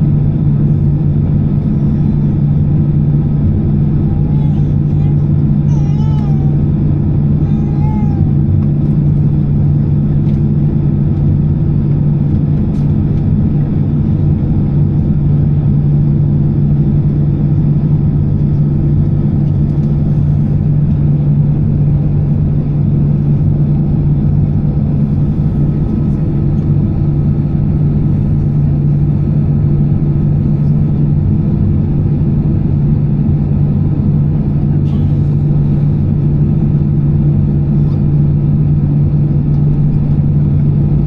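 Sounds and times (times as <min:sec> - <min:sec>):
airplane cabin drone: 0:00.0 - 0:41.0.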